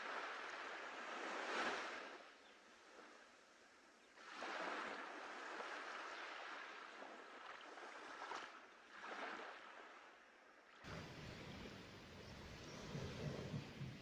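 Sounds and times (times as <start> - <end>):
small waves washing onto sand: 0.0 - 14.0.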